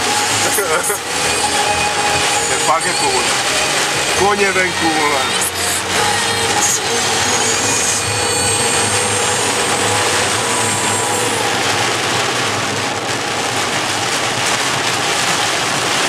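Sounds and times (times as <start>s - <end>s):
heavy rain on car roof: 0.0s - 16.0s.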